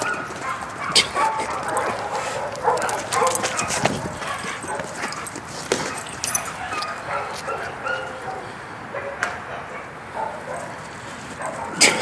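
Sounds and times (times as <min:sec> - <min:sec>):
dogs yipping and whining: 0:00.0 - 0:10.7
dog barks: 0:00.0 - 0:10.8, 0:11.4 - 0:12.0.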